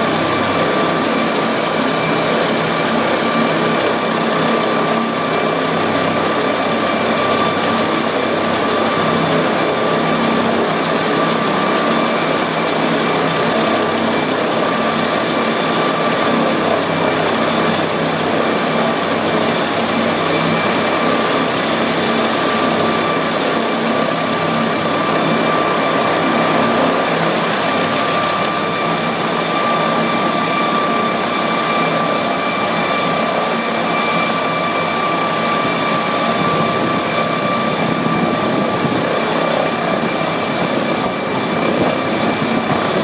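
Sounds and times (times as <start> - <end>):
helicopter rotor and engine noise: 0.0 - 43.0
helicopter turbine whine: 0.0 - 43.0.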